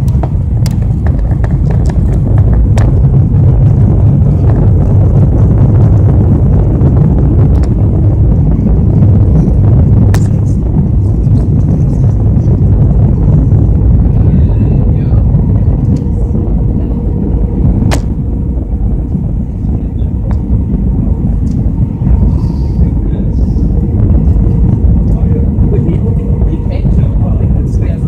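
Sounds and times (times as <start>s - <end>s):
airliner engine and airflow rumble: 0.0s - 28.0s.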